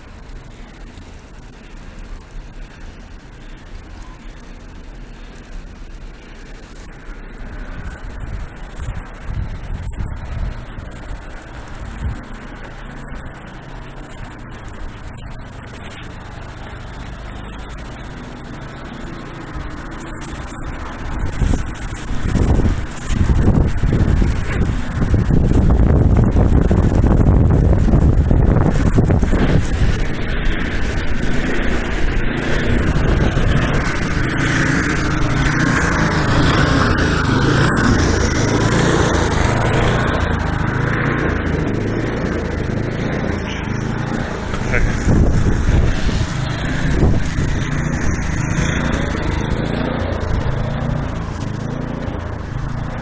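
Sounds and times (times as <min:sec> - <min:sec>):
vehicle engine running: 0:00.0 - 0:53.0
wind noise: 0:05.4 - 0:53.0.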